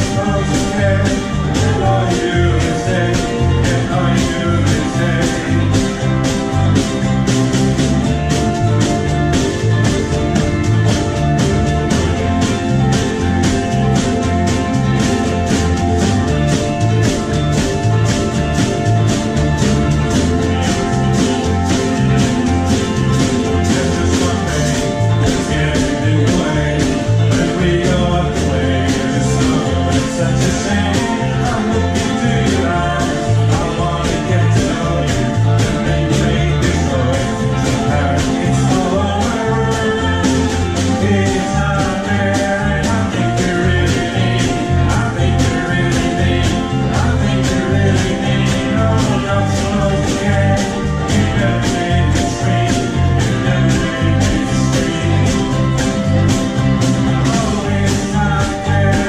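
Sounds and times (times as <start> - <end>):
bass notes: 0.0 - 59.0
ukuleles strummed: 0.0 - 59.0.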